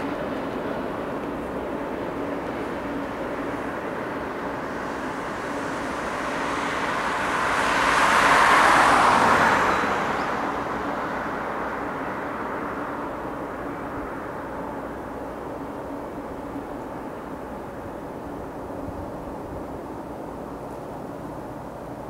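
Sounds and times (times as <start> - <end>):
freight train rumble: 0.0 - 22.0
road vehicle passing: 0.0 - 22.0.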